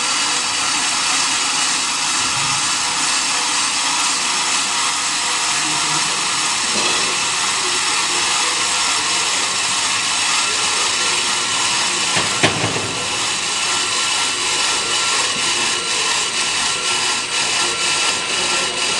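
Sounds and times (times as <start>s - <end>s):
cutting tool shaving brake disc: 0.0s - 18.9s.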